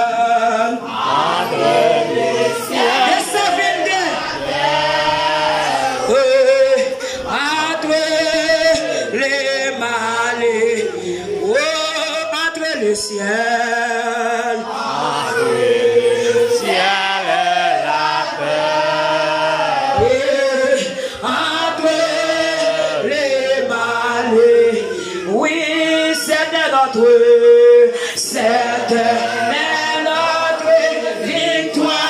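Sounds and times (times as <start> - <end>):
congregation singing: 0.0 - 32.0.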